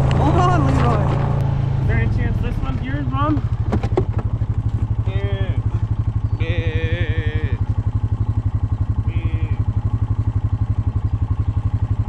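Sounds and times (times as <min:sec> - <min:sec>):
atv engine idling: 0:01.7 - 0:12.0.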